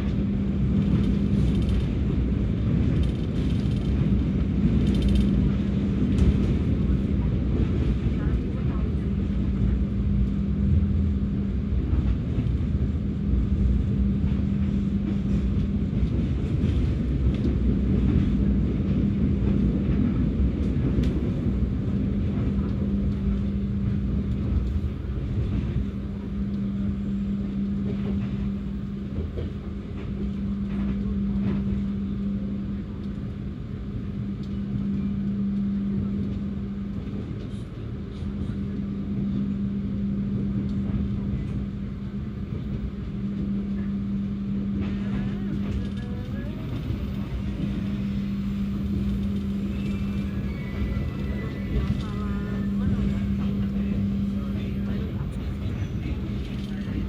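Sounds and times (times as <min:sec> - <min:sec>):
passenger train rumbling: 0:00.0 - 0:57.0.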